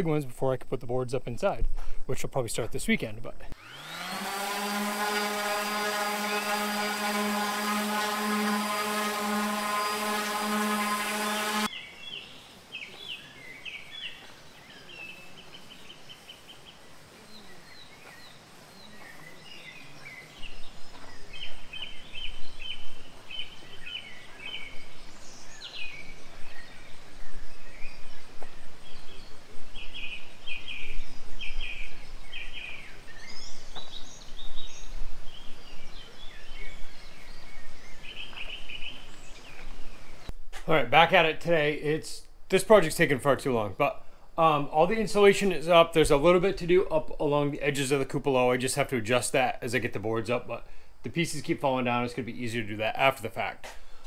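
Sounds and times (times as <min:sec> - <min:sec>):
small birds chirping: 0:04.6 - 0:54.0.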